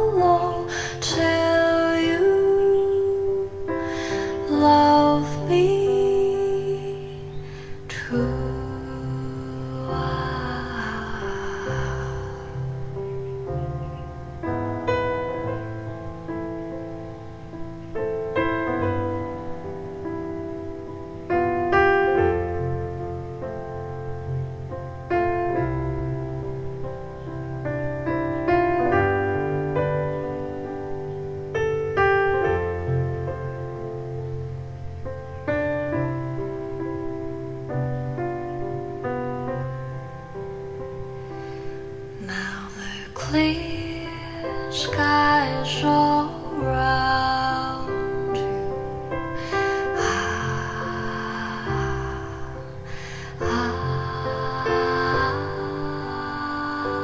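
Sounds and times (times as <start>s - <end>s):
piano playing slow chords: 0.0s - 57.0s.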